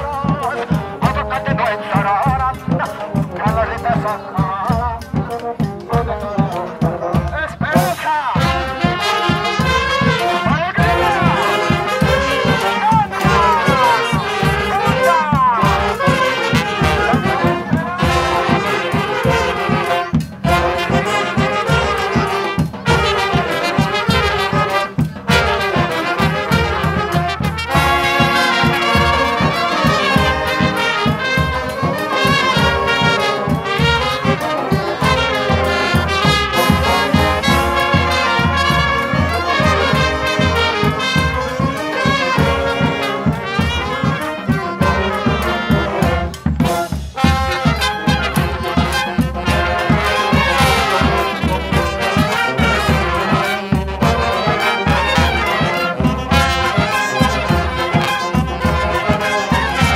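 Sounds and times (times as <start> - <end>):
bass drum beat: 0.0 - 59.9
brass band playing: 0.0 - 59.9.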